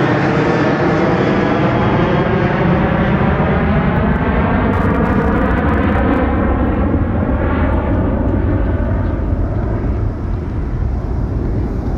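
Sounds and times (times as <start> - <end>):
jet engines rumbling at takeoff: 0.0 - 11.9.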